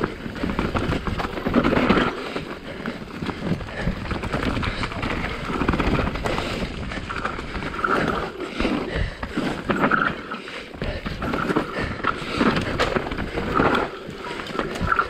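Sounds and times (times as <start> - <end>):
bike tyres rolling on dirt: 0.0 - 15.0.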